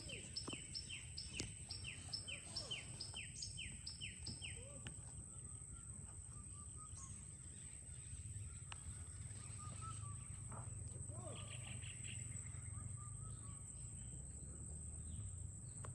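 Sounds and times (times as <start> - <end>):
faint lower bird chirps: 0.0 - 15.9.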